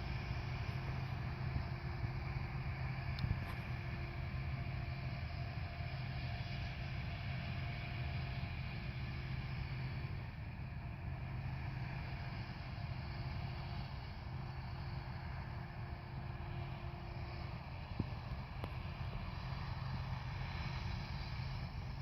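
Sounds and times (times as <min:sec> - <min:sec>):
harvest machinery humming: 0:00.0 - 0:22.0.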